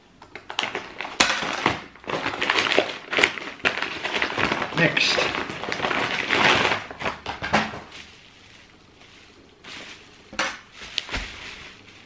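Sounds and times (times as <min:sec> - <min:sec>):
paper rustling and crinkling: 0:00.5 - 0:12.0.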